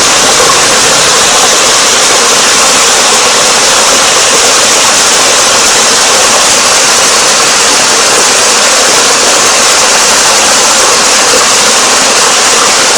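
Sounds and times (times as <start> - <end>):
rushing water: 0.0 - 12.9.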